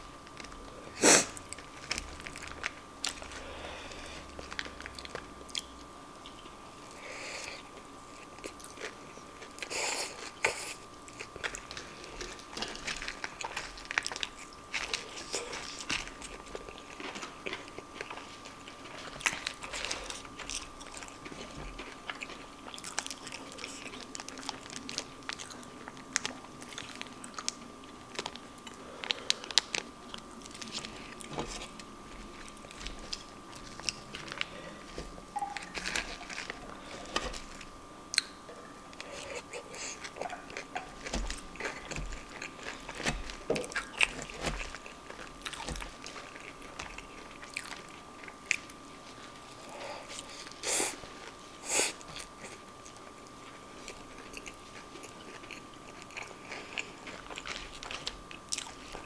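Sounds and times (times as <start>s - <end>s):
faint steady whine: 0.0s - 59.0s
person chewing and crunching: 0.0s - 59.0s.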